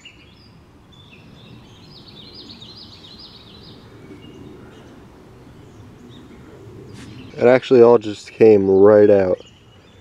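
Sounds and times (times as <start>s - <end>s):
songbird singing: 0.0s - 10.0s
low outdoor rumble: 0.3s - 10.0s.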